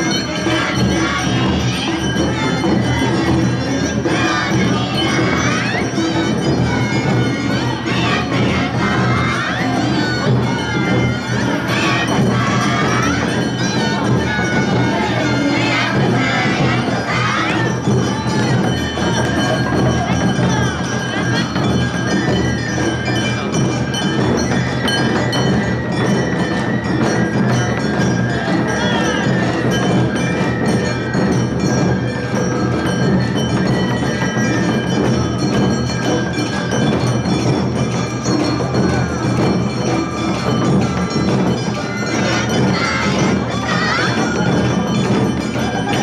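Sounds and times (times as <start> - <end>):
drums beating: 0.0 - 46.0.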